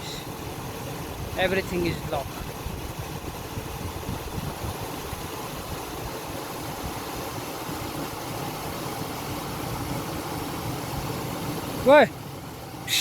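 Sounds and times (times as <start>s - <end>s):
mountain river rushing: 0.0s - 13.0s.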